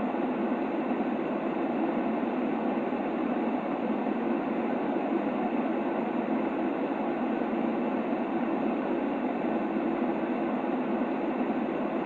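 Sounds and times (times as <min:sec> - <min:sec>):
steady white noise: 0:00.0 - 0:12.0.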